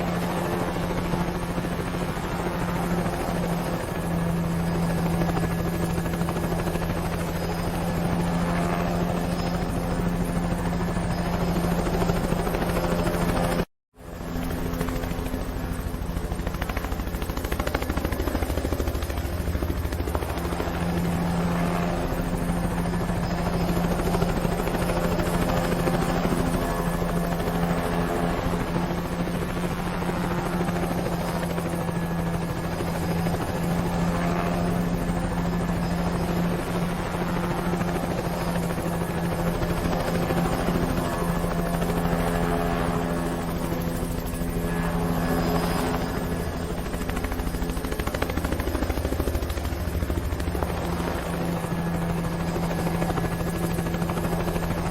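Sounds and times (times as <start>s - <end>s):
helicopter rotor beating: 0.0s - 54.9s.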